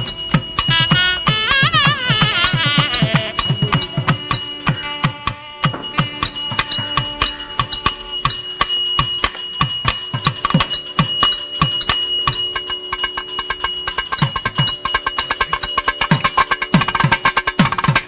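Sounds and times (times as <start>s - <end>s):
bell rung rapidly: 0.0s - 18.0s.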